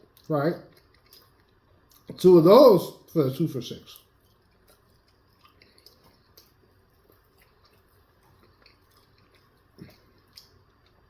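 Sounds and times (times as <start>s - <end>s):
person chewing: 0.0s - 2.2s, 3.9s - 11.0s.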